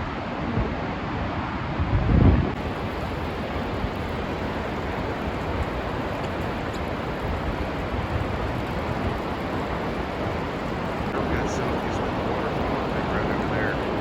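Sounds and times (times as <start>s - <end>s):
wind blowing on microphone: 0.0s - 14.0s.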